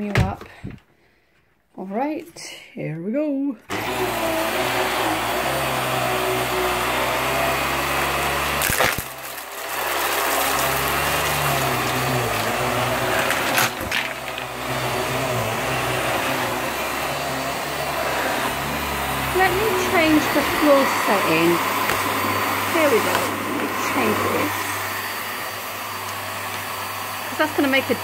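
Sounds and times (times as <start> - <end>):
vacuum cleaner on carpet: 3.7 - 28.0.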